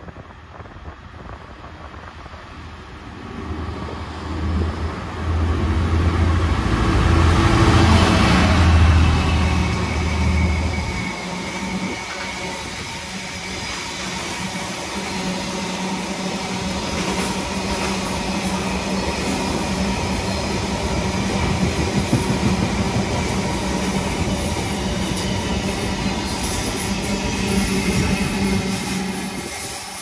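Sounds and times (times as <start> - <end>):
diesel locomotive drone: 0.0 - 30.0
train wheels on rails: 0.0 - 30.0.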